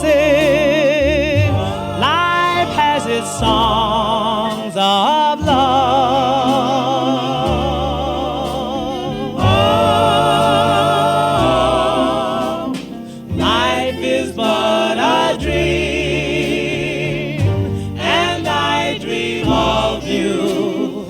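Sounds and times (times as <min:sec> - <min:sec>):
slow instrumental backing: 0:00.0 - 0:21.0
vocal group singing harmony: 0:00.0 - 0:21.0.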